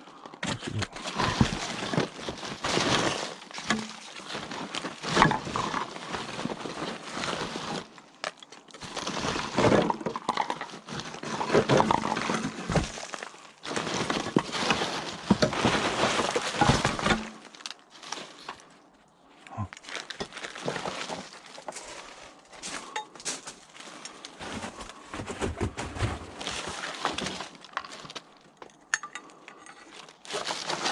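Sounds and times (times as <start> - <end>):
hands rummaging through scrap: 0.0 - 18.9, 19.6 - 30.9.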